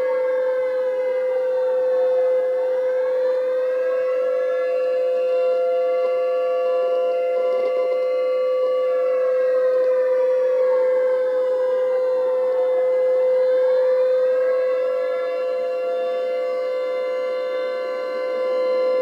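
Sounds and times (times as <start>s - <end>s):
civil defense siren wailing: 0.0s - 19.0s.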